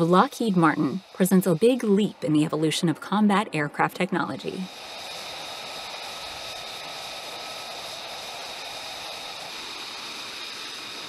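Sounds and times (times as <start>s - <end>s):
faint high whine: 0.0s - 11.0s
jet aircraft in flight: 0.0s - 11.0s.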